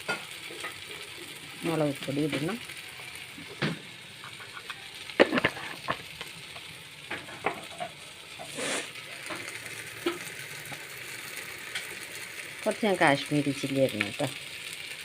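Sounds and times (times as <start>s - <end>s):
chicken sizzling in a pot: 0.0s - 15.0s.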